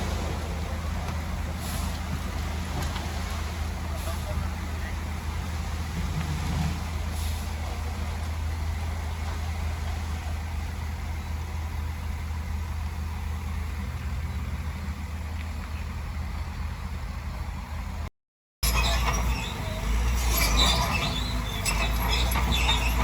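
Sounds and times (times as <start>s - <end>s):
heavy diesel engine humming: 0.0s - 23.0s.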